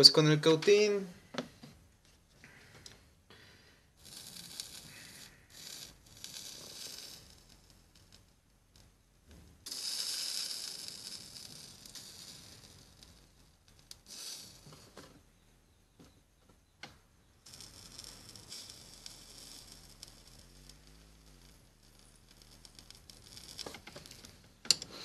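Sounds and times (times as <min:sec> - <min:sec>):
solder sizzling on iron: 0:03.9 - 0:16.1, 0:17.0 - 0:25.0.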